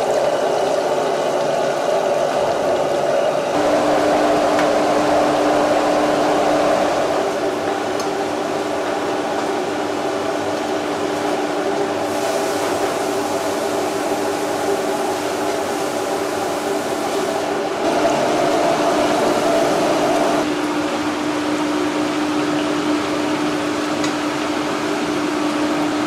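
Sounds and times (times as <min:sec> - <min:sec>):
kitchen equipment humming: 0:02.5 - 0:26.0.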